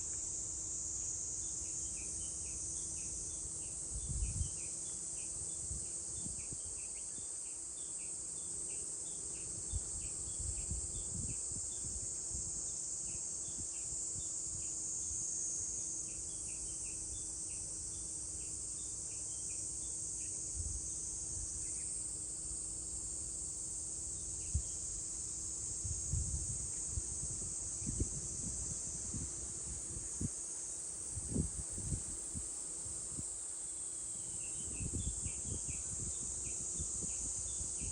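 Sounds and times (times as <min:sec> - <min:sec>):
cicadas droning: 0:00.0 - 0:37.9.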